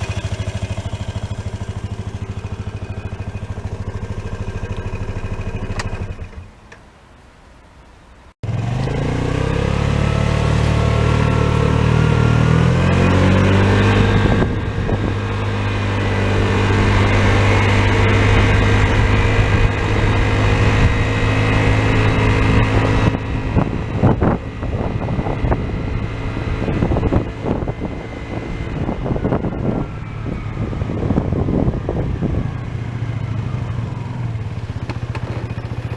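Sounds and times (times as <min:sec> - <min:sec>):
scooter engine accelerating: 0:00.0 - 0:06.6, 0:08.4 - 0:35.9.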